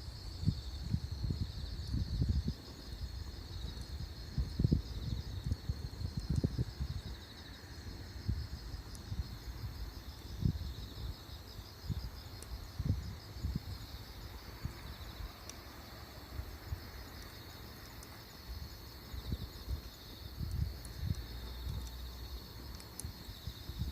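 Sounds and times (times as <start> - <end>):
insects chirping: 0.0 - 23.9
wood fire rumbling: 0.1 - 23.9.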